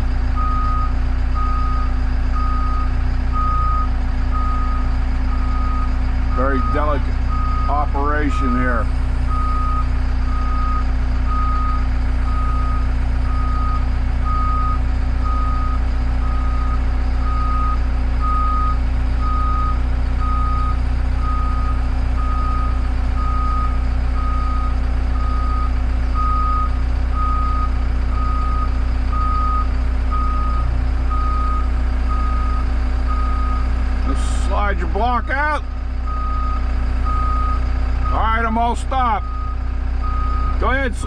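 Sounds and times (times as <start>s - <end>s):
diesel engine running: 0.0s - 41.0s
warning alarm beeping: 0.4s - 41.0s.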